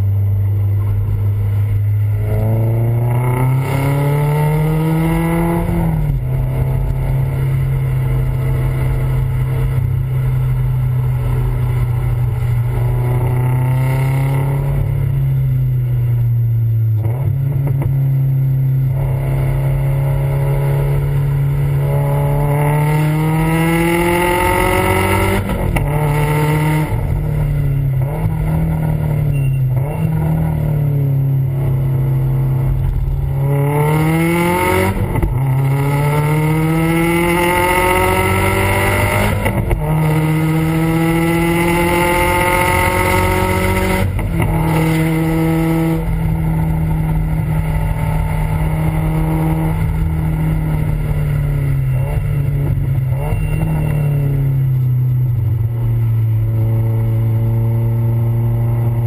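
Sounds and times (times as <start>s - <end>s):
car engine exhaust revving: 0.0s - 59.0s.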